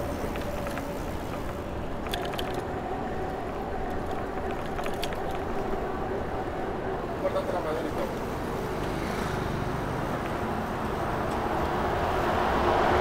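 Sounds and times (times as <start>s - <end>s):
city street traffic: 0.0s - 13.0s
faint engine-like hum: 0.0s - 13.0s
wind and road noise: 0.0s - 13.0s.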